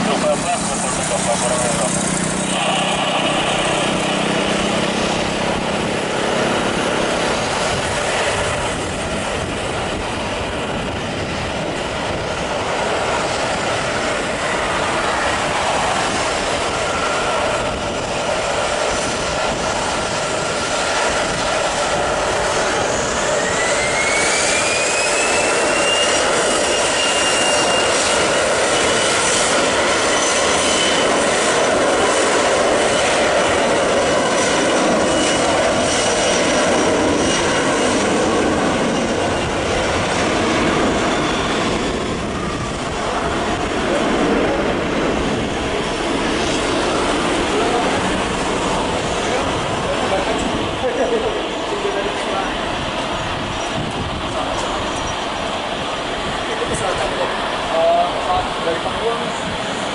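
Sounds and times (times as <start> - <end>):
jet engine whine rising: 0.0 - 59.9
jet engines roaring: 0.0 - 59.9.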